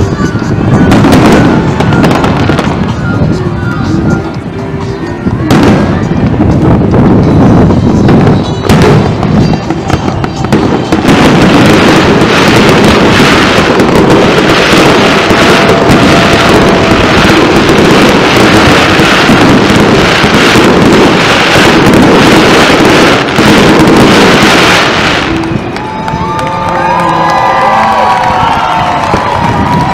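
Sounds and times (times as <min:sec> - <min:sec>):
fireworks booming and crackling: 0:00.0 - 0:29.9.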